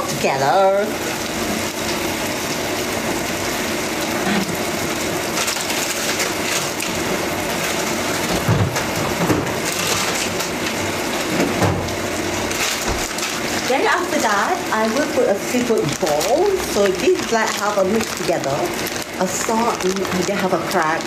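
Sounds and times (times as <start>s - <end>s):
food frying in oil: 0.0s - 21.0s.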